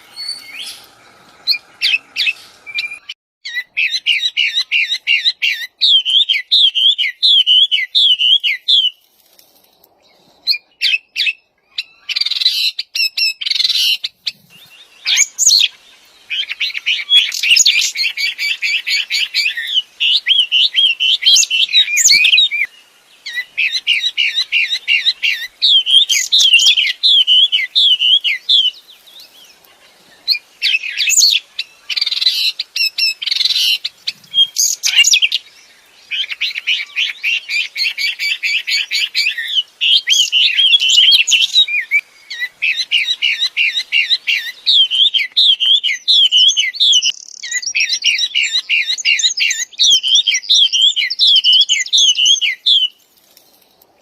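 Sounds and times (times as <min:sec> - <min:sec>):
songbird chirping and warbling: 0:00.0 - 0:54.0.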